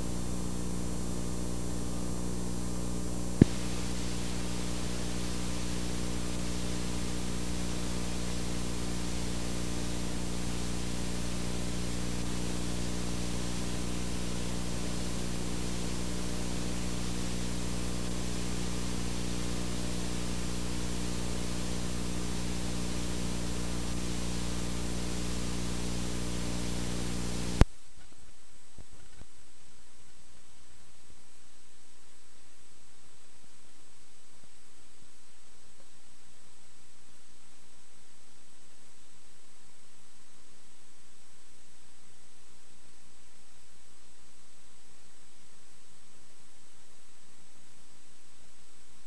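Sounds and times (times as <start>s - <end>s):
videotape player hiss and hum: 0.0s - 49.0s.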